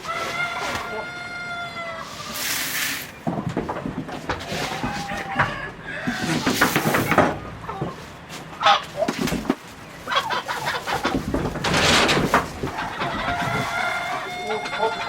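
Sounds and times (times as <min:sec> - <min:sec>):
chickens clucking: 0:00.0 - 0:15.0
rustling: 0:02.0 - 0:14.1.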